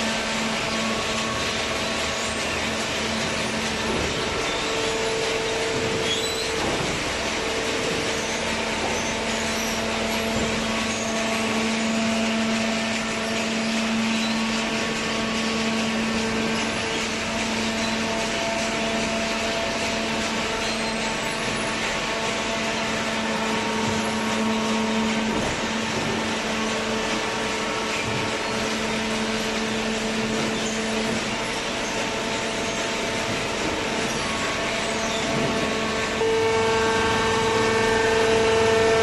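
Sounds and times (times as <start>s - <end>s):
electric motor and pump humming: 0.0s - 39.0s.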